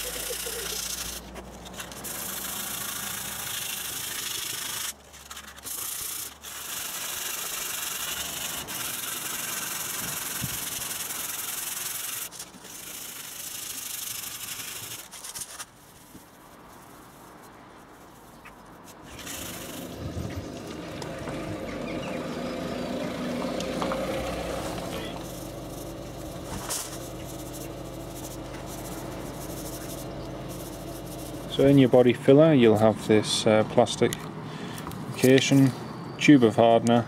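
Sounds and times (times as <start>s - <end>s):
sandpaper rubbing on metal panel: 0.0s - 32.2s.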